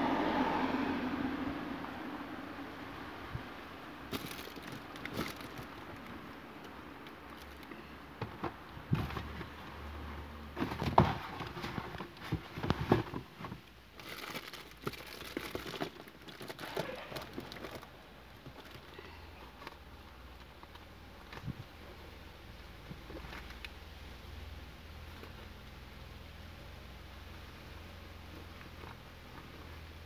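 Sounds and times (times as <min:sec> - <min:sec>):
crinkling and rustling of handling: 0:04.0 - 0:24.2, 0:24.9 - 0:30.0.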